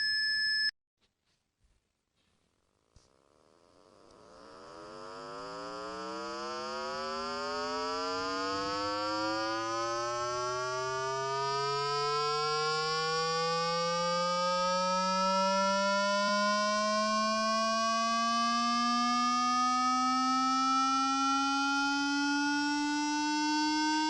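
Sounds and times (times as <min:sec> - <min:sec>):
rising electronic tone: 0:03.3 - 0:24.0.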